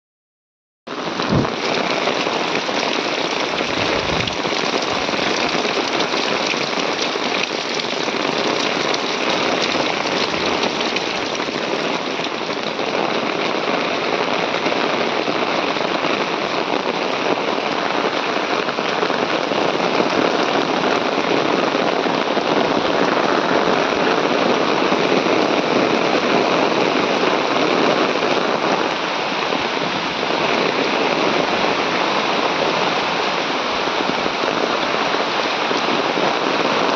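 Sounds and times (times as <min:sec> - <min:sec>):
heavy rain falling: 0:00.9 - 0:36.9.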